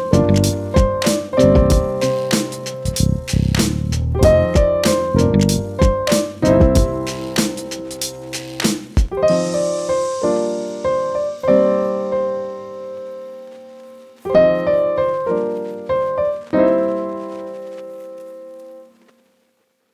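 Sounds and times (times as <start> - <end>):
piano chords ringing: 0.0 - 3.3, 4.1 - 8.5, 9.1 - 19.0.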